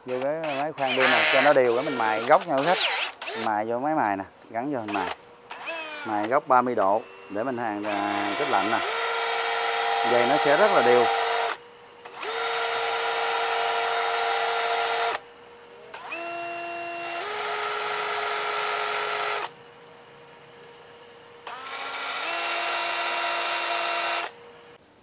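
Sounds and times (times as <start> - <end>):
drill grinding with whining motor: 0.0 - 15.3, 15.9 - 24.8.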